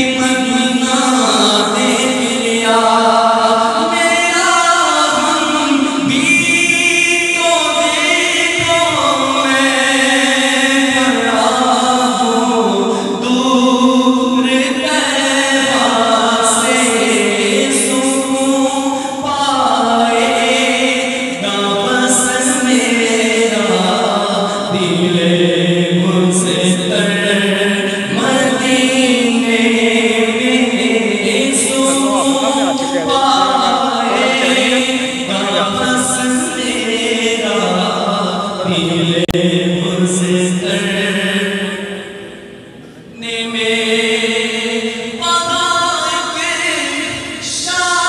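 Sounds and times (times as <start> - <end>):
man singing through pa system: 0.0 - 48.0.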